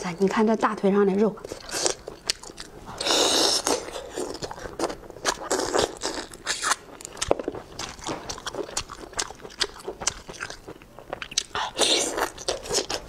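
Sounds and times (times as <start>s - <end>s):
person chewing and crunching: 1.4s - 13.0s.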